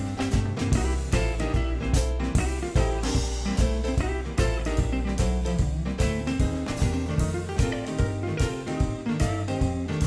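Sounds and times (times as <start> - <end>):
drum kit hits: 0.0 - 10.0
live blues band playing: 0.0 - 10.0.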